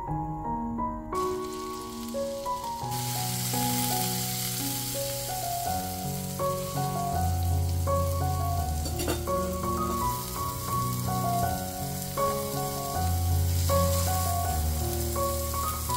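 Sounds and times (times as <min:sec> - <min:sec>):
burger patty sizzling in pan: 0:01.2 - 0:15.9.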